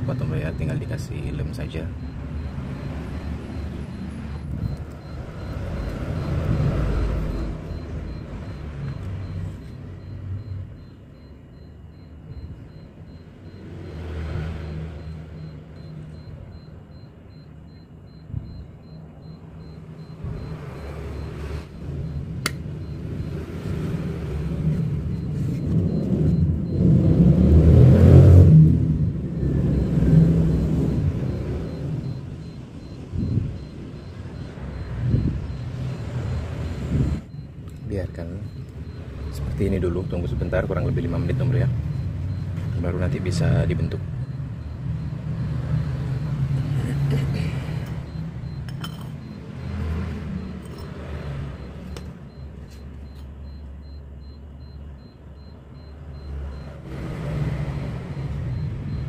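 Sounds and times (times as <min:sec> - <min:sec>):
passing vehicles rumbling: 0:00.0 - 0:59.0.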